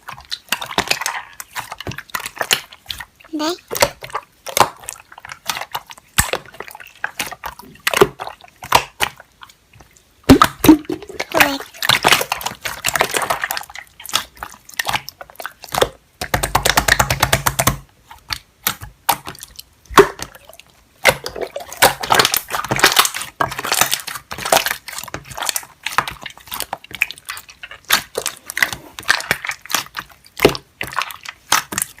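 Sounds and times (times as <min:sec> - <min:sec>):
slime squished by hand: 0:00.0 - 0:09.6, 0:10.2 - 0:32.0.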